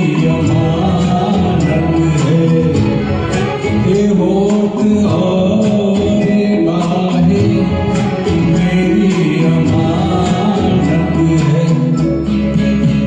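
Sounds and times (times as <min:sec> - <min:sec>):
instrumental backing track with beat: 0:00.0 - 0:13.0.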